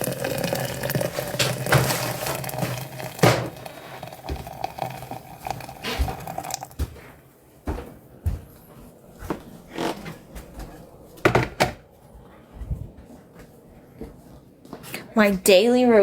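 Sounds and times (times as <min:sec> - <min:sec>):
crinkling and rustling: 0:01.0 - 0:04.5, 0:05.7 - 0:15.0.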